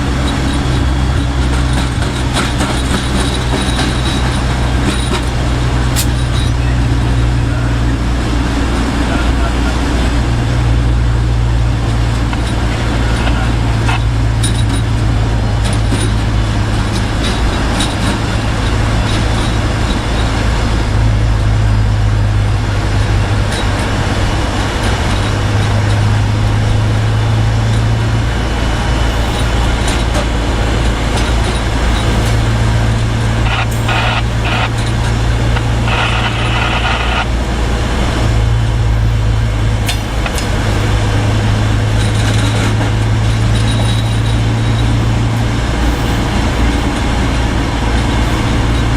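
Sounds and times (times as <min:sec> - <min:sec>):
engine droning: 0:00.0 - 0:48.9.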